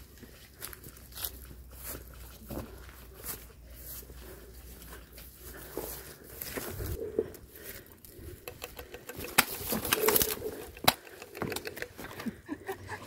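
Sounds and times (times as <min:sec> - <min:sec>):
rustling through brush: 0:00.0 - 0:12.3.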